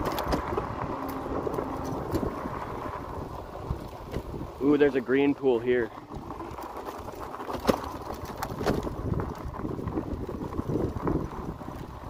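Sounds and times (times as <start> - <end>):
bike tyres rumbling on gravel: 0.0 - 12.0.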